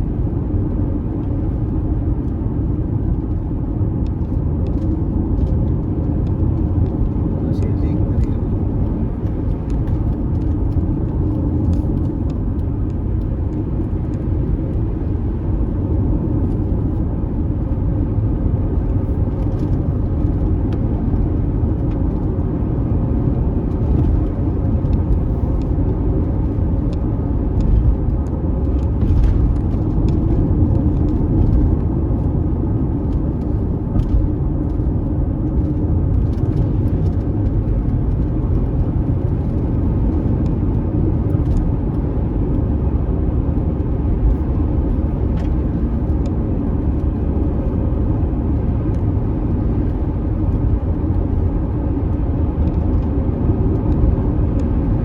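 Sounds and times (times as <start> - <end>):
car rumbling on unpaved road: 0.0 - 55.0.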